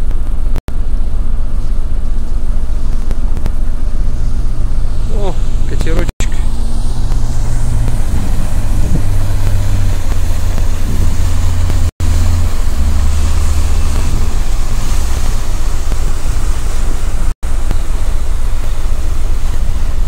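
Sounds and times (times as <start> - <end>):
wind buffeting microphone: 2.0 - 20.0.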